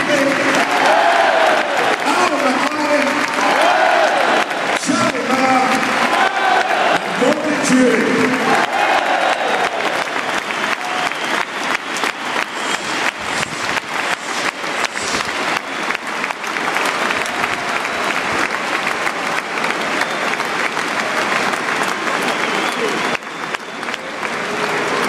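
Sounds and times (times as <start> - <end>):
stadium crowd applauding: 0.0 - 25.0.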